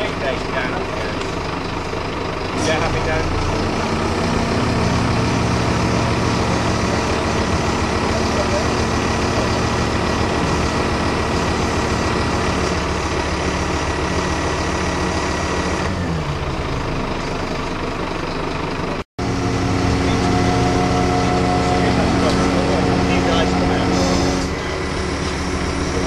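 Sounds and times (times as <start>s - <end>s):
large engine running: 0.0s - 26.0s.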